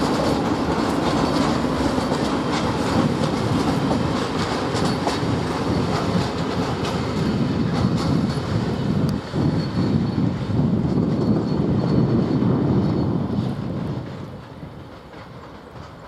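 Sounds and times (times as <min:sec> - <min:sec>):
train rumble: 0:00.0 - 0:16.0
wheels clicking over rail joints: 0:00.0 - 0:16.0.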